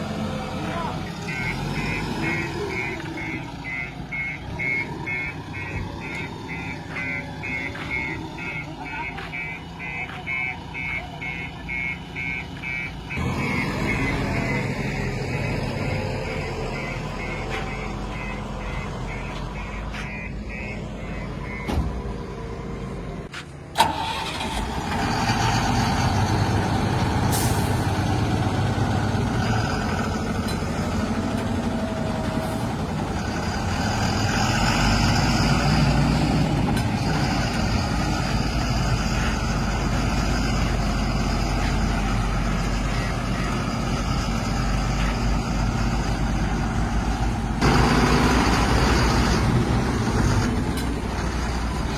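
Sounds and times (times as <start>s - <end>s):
heavy diesel machinery engines: 0.0s - 51.9s.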